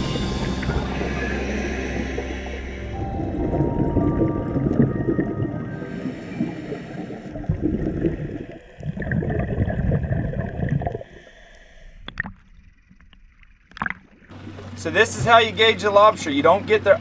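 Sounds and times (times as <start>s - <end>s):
regulator bubbles gurgling underwater: 0.6s - 11.3s, 12.0s - 16.2s.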